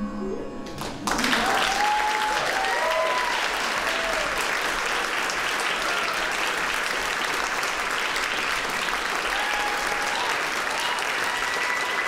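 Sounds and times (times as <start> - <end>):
audience applauding: 0.7 - 12.0.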